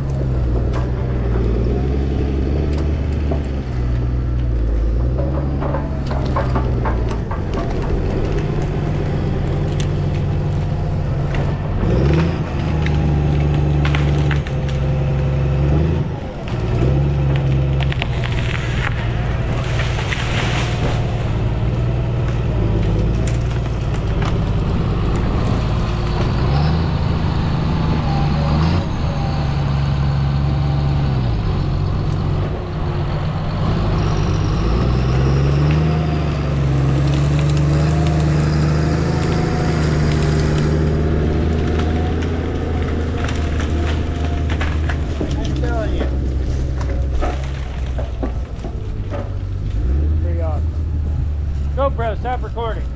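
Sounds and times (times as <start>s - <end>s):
diesel engine revving: 0.0s - 52.9s
wood cracking and branches breaking: 0.0s - 52.9s.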